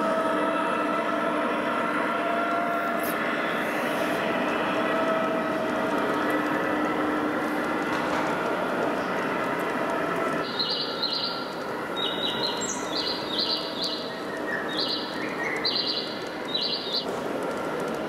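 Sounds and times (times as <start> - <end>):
model train coaches rolling: 0.0 - 18.0.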